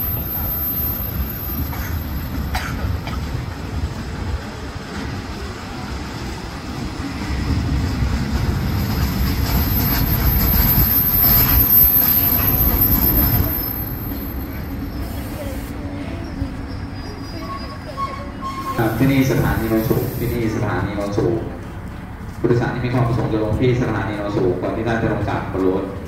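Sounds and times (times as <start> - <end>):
train rolling past rumble: 0.0 - 26.0.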